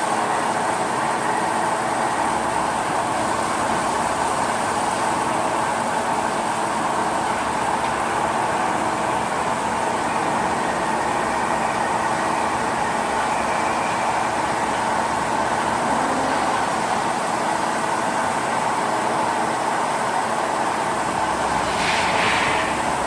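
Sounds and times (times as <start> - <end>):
lathe machine running: 0.0 - 23.0.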